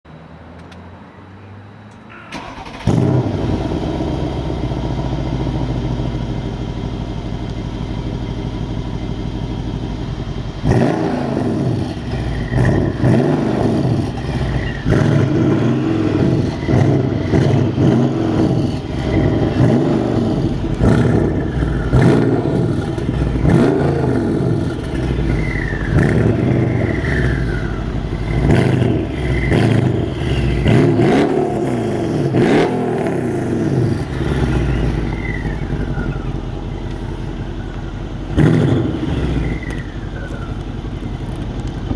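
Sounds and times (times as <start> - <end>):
car engine starting: 1.8 - 41.9
car engine idling: 1.9 - 41.9
car engine revving: 2.3 - 9.8, 10.4 - 41.9.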